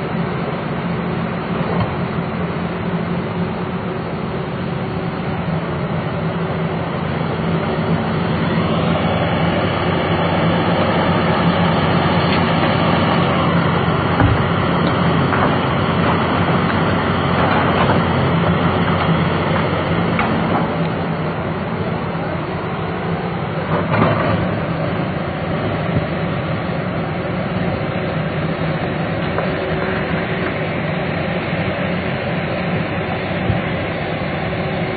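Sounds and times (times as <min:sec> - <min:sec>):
excavator diesel engine under load: 0:00.0 - 0:34.9
hydraulic whine: 0:00.0 - 0:34.9.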